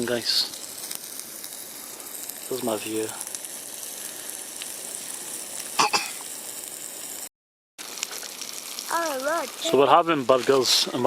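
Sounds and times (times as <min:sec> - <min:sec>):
burgers sizzling in a pan: 0:00.0 - 0:11.0.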